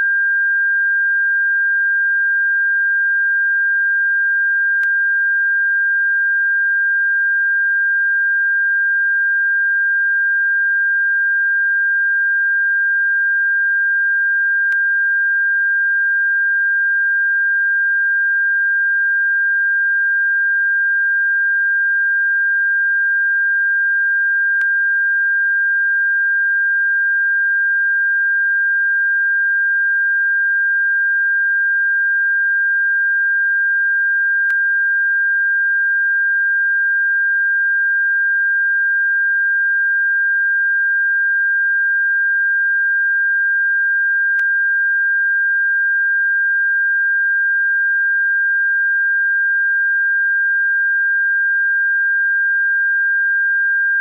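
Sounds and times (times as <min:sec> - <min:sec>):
high-pitched electronic sine tone: 0:00.0 - 0:54.0.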